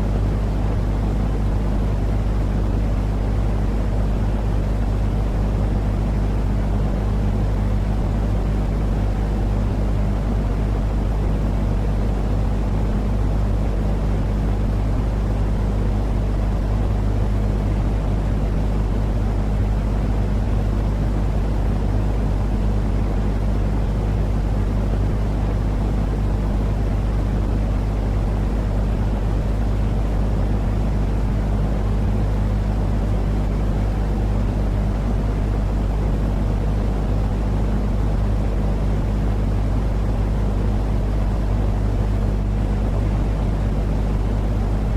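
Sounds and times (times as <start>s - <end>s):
constant low hum: 0.0s - 44.9s.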